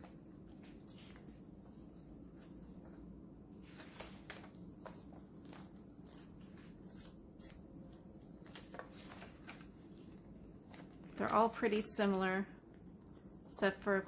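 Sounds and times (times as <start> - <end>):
paper pages turning: 0.0 - 12.2.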